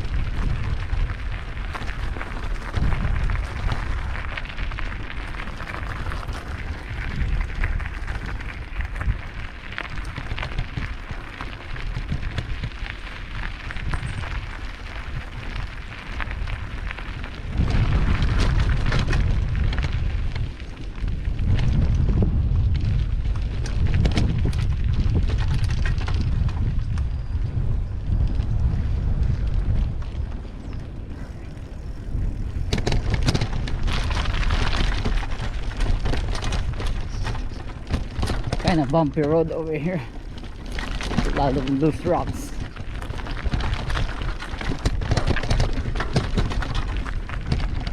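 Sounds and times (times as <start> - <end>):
tyres crunching on rocks: 0.0 - 21.8, 30.4 - 47.9
bike rattling and clicking: 0.0 - 47.9
wind rumble on microphone: 0.0 - 47.9.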